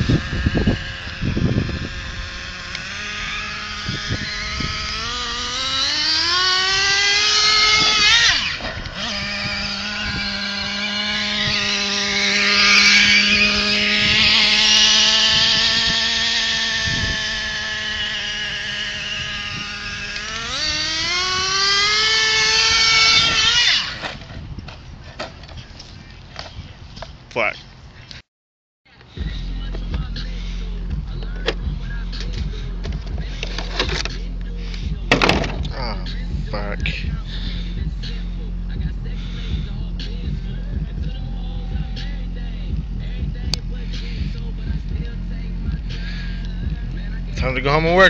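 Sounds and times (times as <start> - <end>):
nitro engine high whine: 0.0 - 28.2, 28.9 - 48.0.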